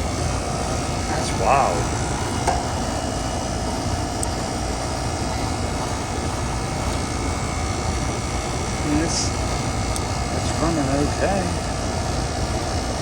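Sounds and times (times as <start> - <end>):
air conditioner unit running: 0.0 - 13.0.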